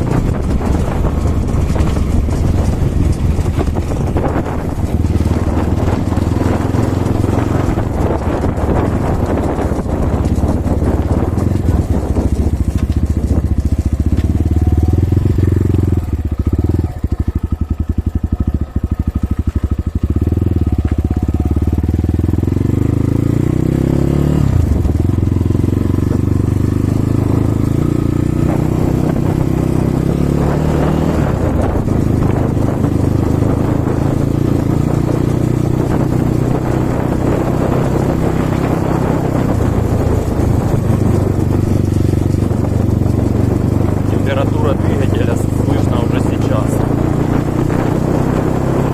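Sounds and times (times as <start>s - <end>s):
dirt bike engine running: 0.0s - 48.9s.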